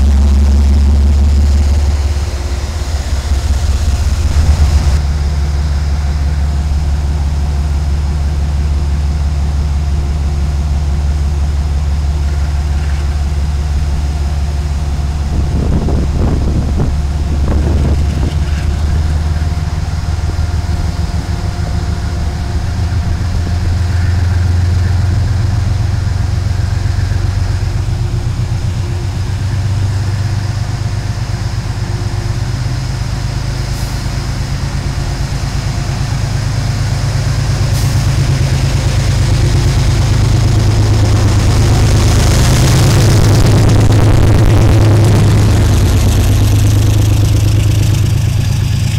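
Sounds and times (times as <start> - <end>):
locomotive engine droning: 0.0 - 48.9.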